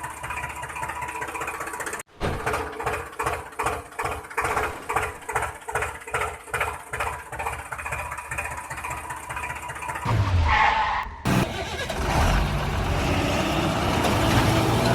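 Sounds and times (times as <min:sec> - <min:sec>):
tractor engine chugging: 0:00.0 - 0:10.1, 0:11.3 - 0:14.9.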